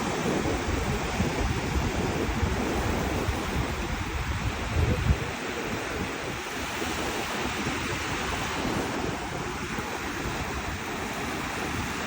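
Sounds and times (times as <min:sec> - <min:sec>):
surf washing onto beach: 0:00.0 - 0:12.0
wind buffeting microphone: 0:00.0 - 0:12.0.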